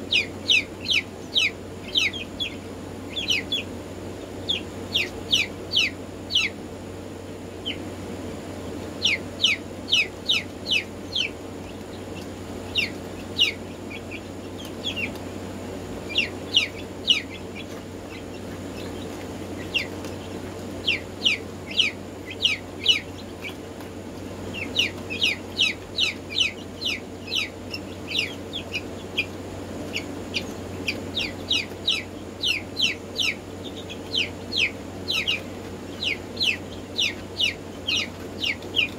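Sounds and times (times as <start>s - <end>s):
chicks peeping: 0.0s - 38.9s
steady low hum: 0.0s - 38.9s.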